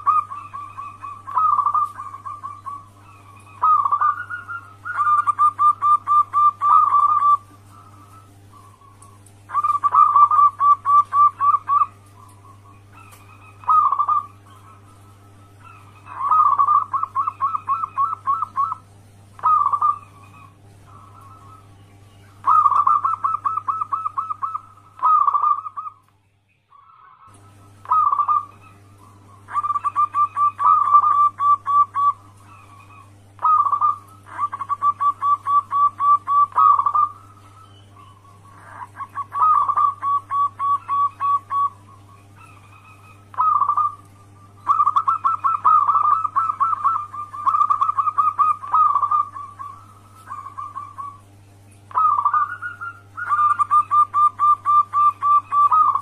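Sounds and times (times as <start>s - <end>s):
dove cooing: 0.0s - 26.1s, 26.7s - 56.0s.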